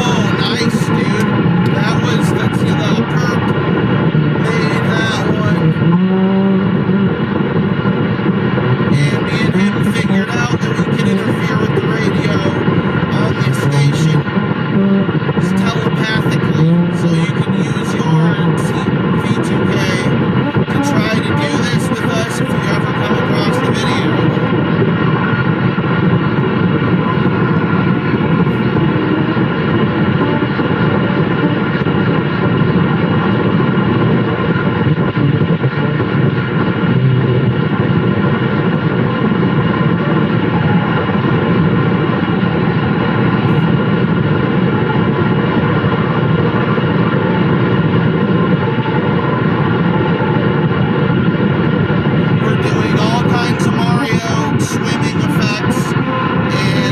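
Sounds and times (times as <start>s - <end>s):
faint steady whines: 0.0s - 56.9s
radio static hiss: 0.0s - 56.9s.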